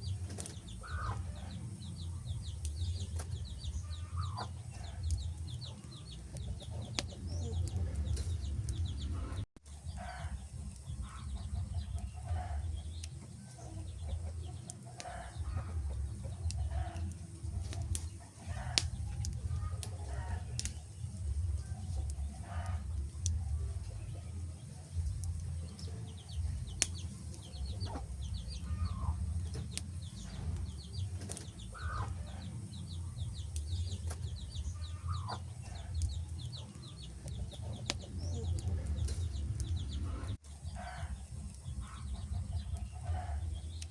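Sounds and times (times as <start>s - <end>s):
fire crackling pops: 0.0s - 43.9s
wood fire rumbling: 0.0s - 43.9s.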